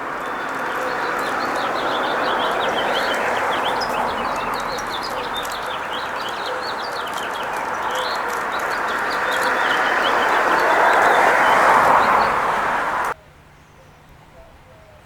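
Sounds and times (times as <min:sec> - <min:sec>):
steady rushing noise: 0:00.0 - 0:13.2
small birds chirping: 0:00.0 - 0:15.0.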